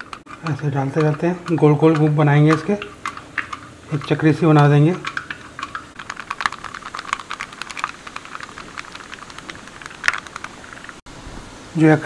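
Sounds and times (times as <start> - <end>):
small popping in oil: 0.0 - 11.0.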